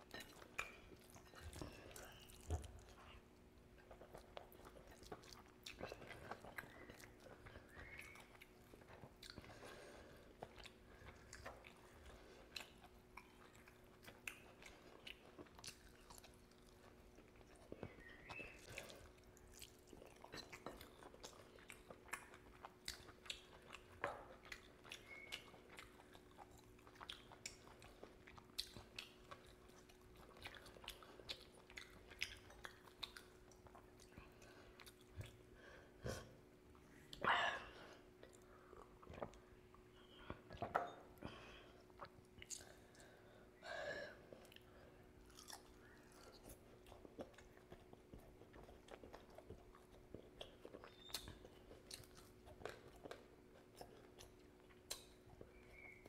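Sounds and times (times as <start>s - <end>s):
faint steady hum: 0.0s - 56.0s
open-mouth chewing: 0.0s - 56.0s.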